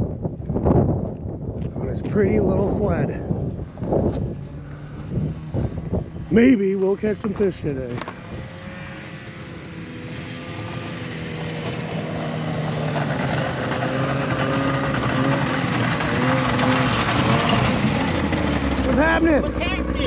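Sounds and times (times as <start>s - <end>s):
snowmobile engine approaching: 0.0s - 20.0s.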